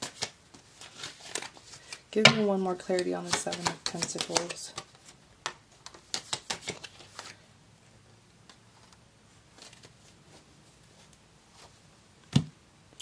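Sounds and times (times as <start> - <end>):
cards being shuffled: 0.0 - 7.4, 8.7 - 11.8.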